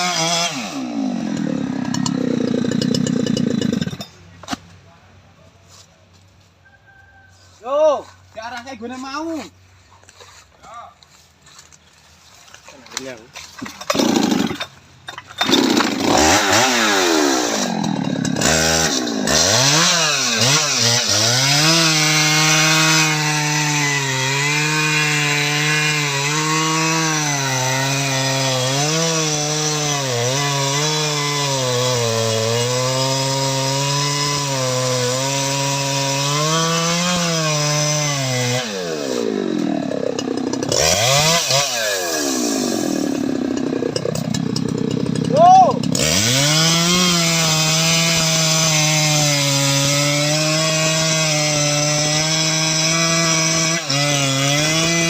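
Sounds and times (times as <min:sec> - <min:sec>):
chainsaw revving and cutting wood: 0:00.0 - 0:04.6, 0:11.1 - 0:55.0.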